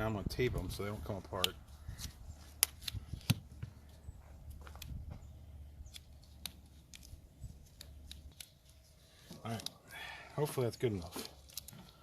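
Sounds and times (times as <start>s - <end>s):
tape clicks and crackles: 0.6s - 10.0s, 10.8s - 12.0s.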